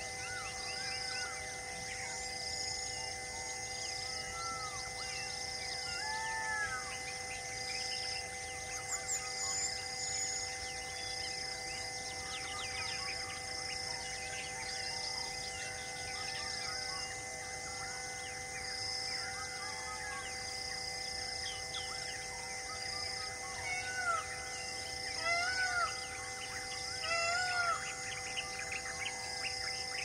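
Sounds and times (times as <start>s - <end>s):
pulsing insect drone: 0.0s - 30.0s.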